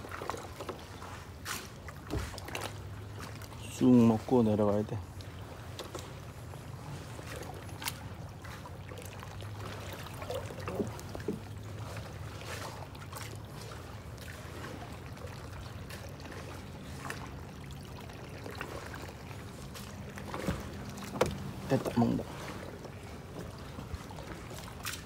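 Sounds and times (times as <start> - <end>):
water lapping and trickling: 0.0 - 25.0.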